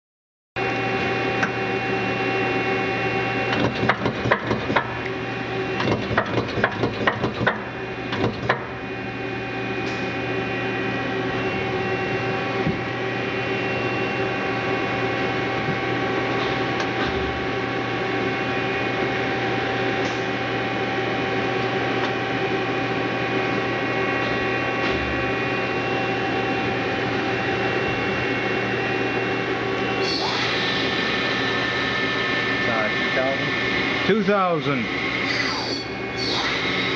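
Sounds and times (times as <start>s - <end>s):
lathe humming and whining: 0.6s - 36.9s.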